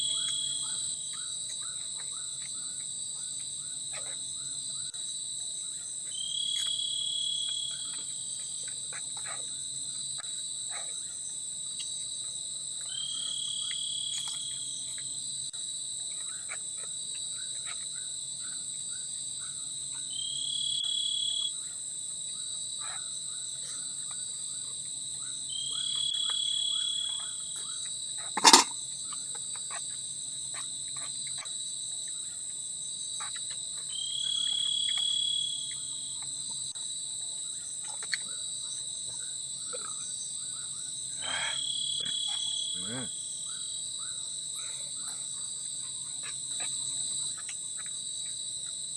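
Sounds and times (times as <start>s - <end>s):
insects chorus: 0.0s - 48.9s
louder insect call: 0.0s - 48.9s.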